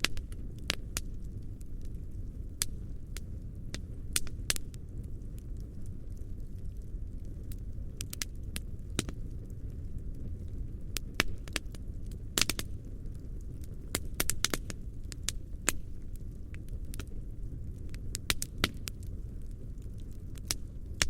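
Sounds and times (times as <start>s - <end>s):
campfire flames rushing: 0.0s - 21.0s
fire crackling and popping: 0.0s - 21.0s.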